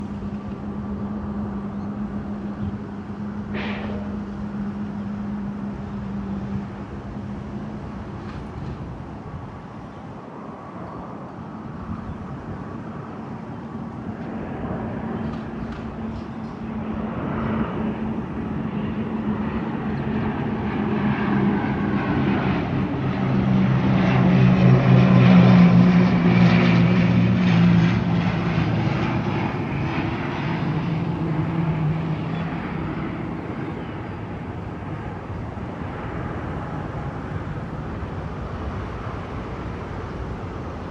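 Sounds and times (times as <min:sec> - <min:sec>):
turboprop airliner droning: 0:00.0 - 0:40.9.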